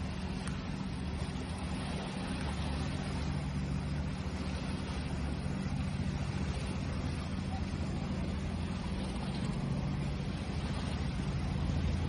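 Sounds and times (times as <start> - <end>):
ocean surf rumbling: 0.0 - 12.0.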